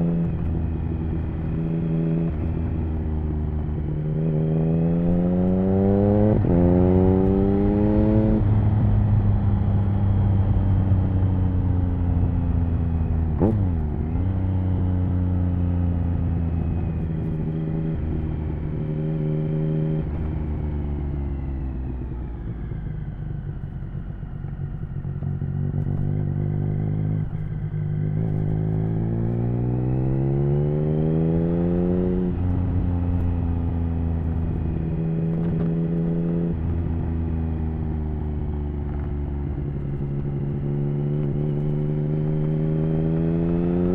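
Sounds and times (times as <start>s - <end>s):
motorcycle engine: 0.0s - 43.9s.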